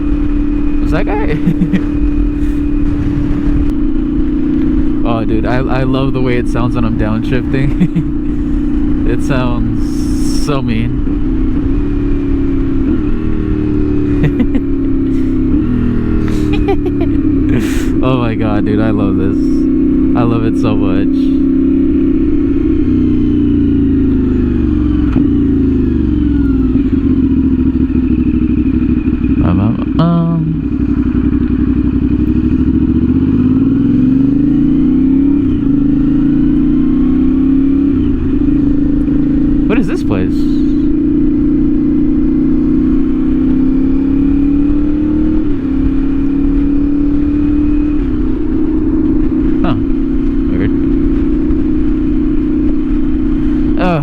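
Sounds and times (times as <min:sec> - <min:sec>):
motorcycle engine revs falling: 0:00.0 - 0:54.0.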